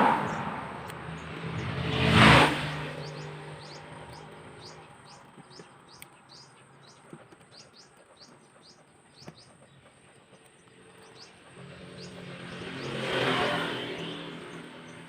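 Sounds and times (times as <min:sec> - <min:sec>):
small bird chirping: 0:02.6 - 0:15.0.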